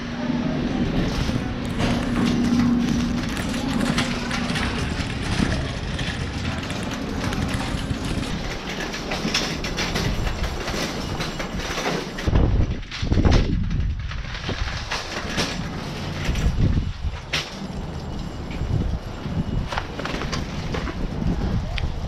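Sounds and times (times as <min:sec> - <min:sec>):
metal shopping cart rattling: 0:00.2 - 0:21.4.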